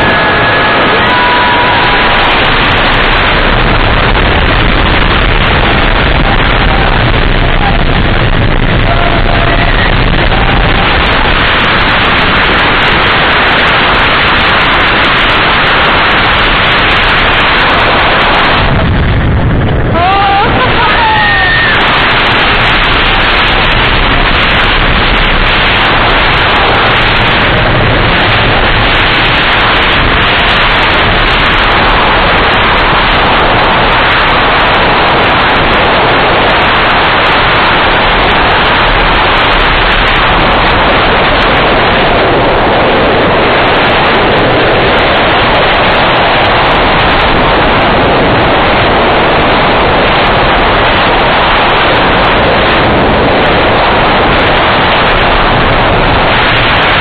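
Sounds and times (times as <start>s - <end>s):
roller coaster train running: 0.0s - 57.0s
wind rushing over microphone: 0.0s - 57.0s.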